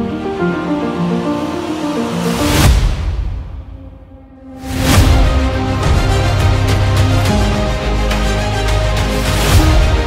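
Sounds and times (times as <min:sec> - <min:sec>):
background music with sustained notes: 0:00.0 - 0:10.0.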